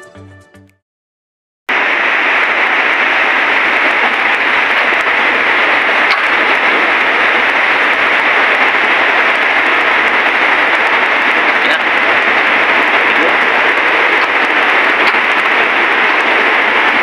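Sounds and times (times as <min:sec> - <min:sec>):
loud steady hiss: 0:01.7 - 0:17.0.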